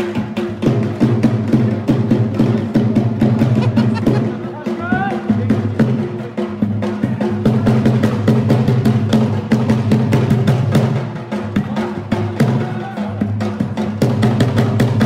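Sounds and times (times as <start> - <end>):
drum beating fast rhythm: 0.0 - 15.0.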